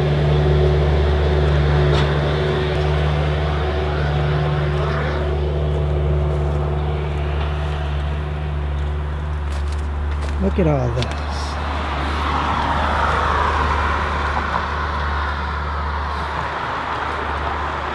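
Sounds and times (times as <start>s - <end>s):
motor running steadily: 0.0s - 17.9s.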